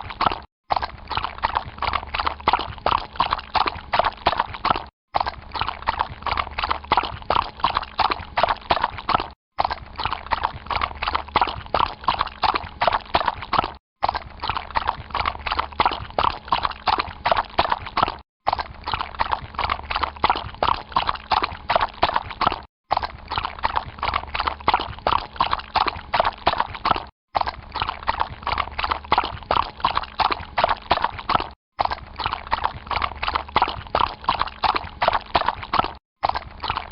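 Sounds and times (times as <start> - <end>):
hooves splashing in water: 0.0 - 36.9.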